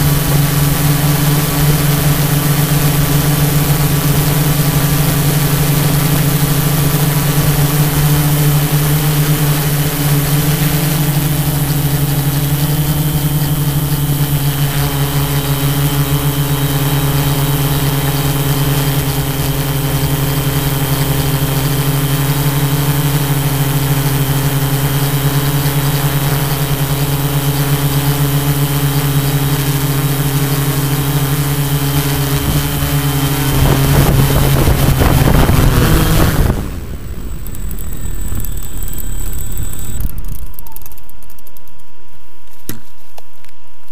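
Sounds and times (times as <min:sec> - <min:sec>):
drone propellers humming: 0:00.0 - 0:42.5.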